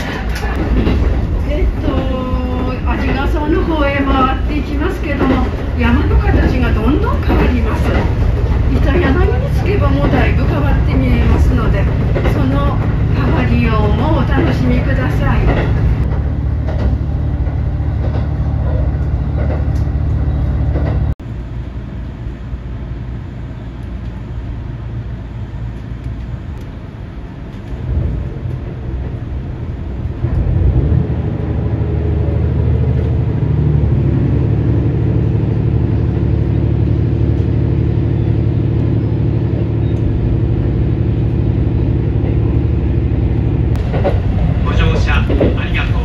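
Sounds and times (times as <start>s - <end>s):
engine hum: 0.0s - 46.0s
train low rumble: 0.0s - 46.0s.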